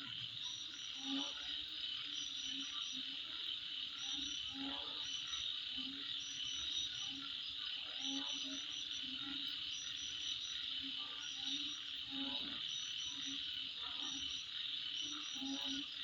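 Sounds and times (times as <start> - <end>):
insect chirps: 0.0 - 16.0
insects trilling: 0.0 - 16.0.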